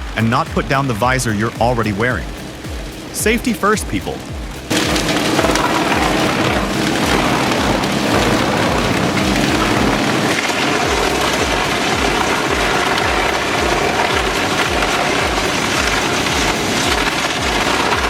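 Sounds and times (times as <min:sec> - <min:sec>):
low machine drone: 0:00.0 - 0:18.0
wood chipper shredding wood: 0:00.0 - 0:18.0.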